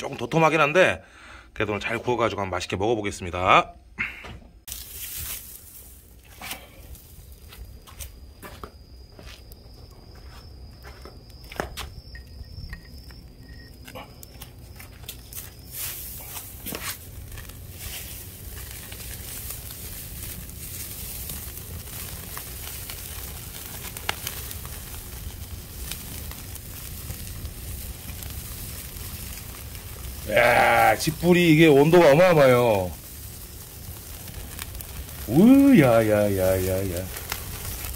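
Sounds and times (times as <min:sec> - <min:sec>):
low fire rumble: 0:00.0 - 0:37.9
straw fire crackling: 0:00.0 - 0:37.9.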